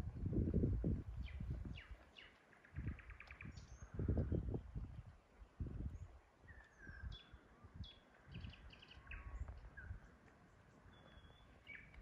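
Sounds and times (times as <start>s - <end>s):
songbirds calling: 1.2s - 12.0s.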